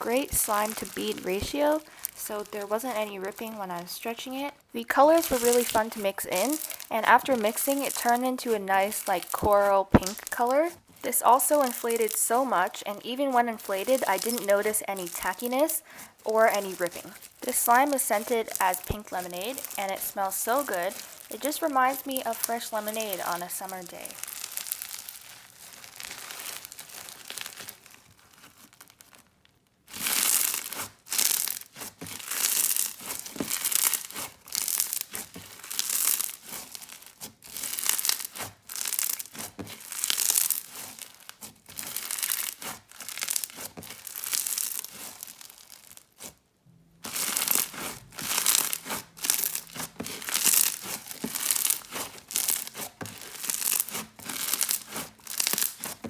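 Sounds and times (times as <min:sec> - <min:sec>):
bead slime crackling and crunching: 0:00.0 - 0:56.0.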